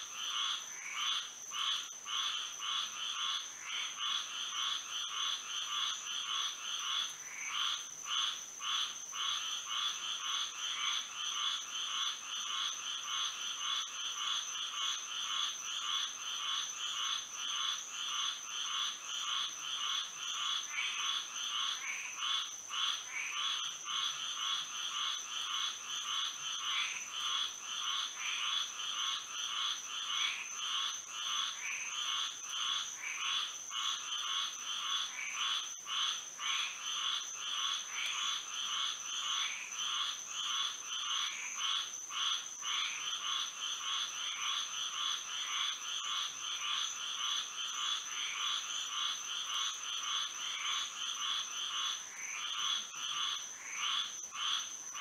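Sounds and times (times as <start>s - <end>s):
chorus of frogs calling: 0.1s - 55.0s.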